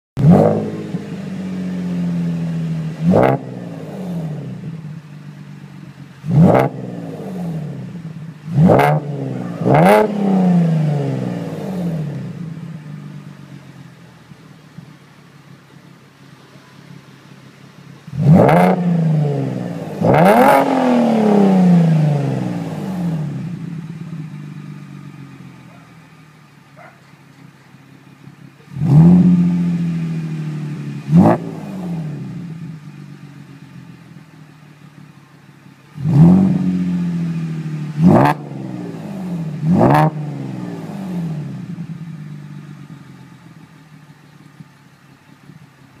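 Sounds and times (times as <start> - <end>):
car engine revving from idle: 0.2 - 46.0.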